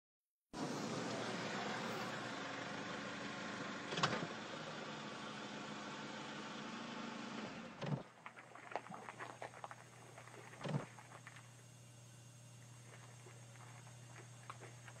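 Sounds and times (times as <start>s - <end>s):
car engine idling: 0.6s - 15.0s.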